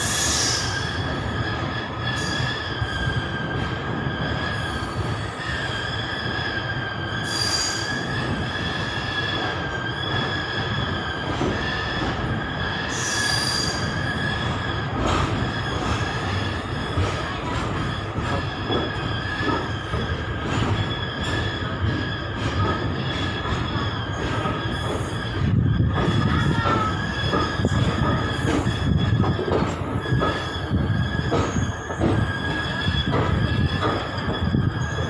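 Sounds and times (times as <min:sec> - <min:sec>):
low rumble of train coaches: 0:00.0 - 0:35.0
train wheels squealing on rails: 0:00.0 - 0:35.0.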